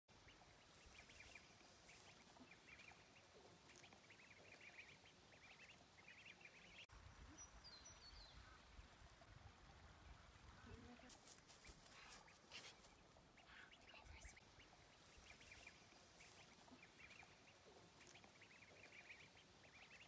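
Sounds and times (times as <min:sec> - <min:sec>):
ducklings peeping: 0:00.2 - 0:09.2, 0:10.4 - 0:20.0.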